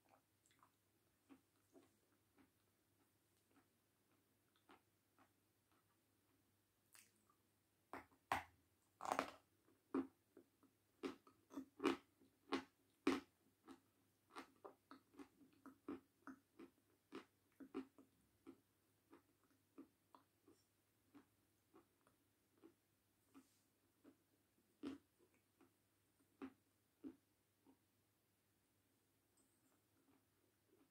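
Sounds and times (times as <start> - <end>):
crunching and chewing: 0.0 - 7.4, 9.0 - 27.8.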